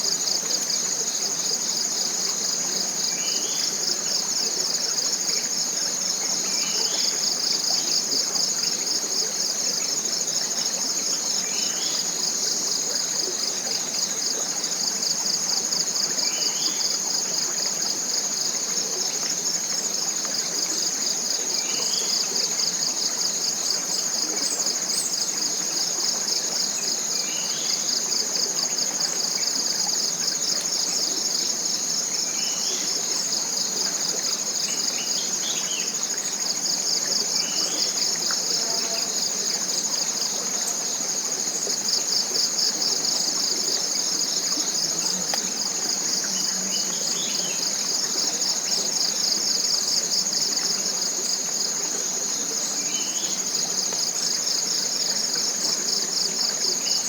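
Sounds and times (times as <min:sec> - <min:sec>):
insect chorus buzzing: 0:00.0 - 0:57.0
small stream rushing: 0:00.0 - 0:57.0.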